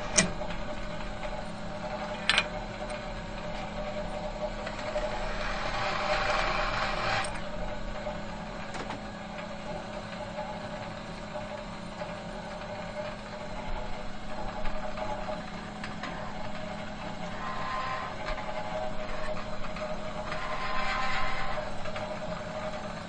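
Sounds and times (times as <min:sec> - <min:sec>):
metal machine humming: 0:00.0 - 0:23.0.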